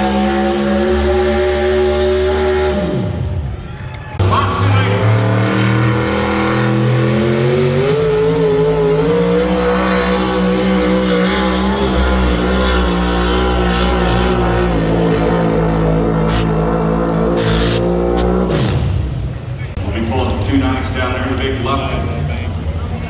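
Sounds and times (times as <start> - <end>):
pulling vehicle engine at full throttle: 0.0 - 23.0.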